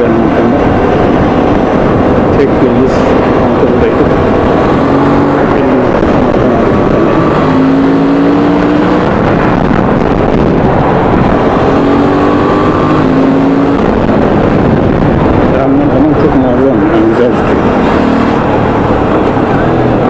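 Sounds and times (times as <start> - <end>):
motorcycle engine running: 0.0 - 20.0
wind rush on microphone: 0.0 - 20.0.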